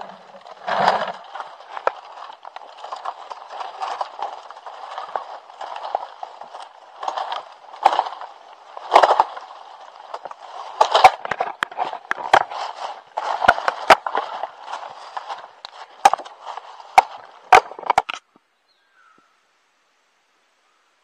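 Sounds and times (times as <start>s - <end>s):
dry bamboo leaves rustling: 0.0s - 18.2s
bamboo cracking and knocking: 0.0s - 18.4s.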